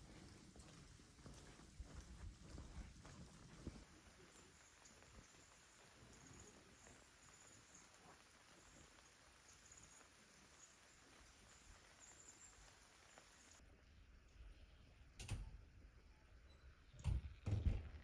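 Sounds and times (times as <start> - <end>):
faint steady hiss: 0.0 - 16.8.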